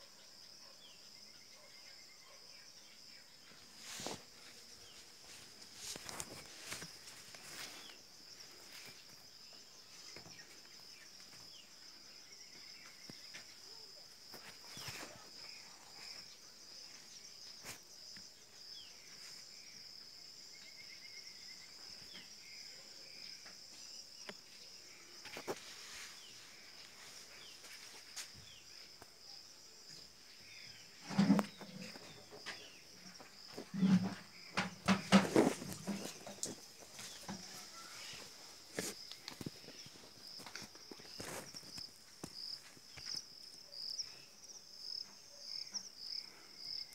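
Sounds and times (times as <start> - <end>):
crickets chirring: 0.0 - 46.9.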